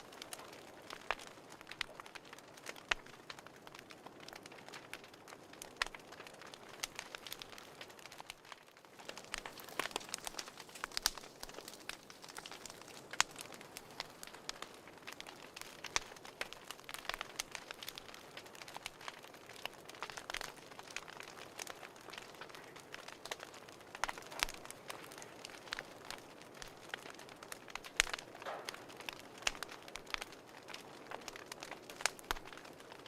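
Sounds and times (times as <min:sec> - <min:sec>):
fire crackling and popping: 0:00.0 - 0:33.0
soft steady hiss: 0:00.0 - 0:33.0.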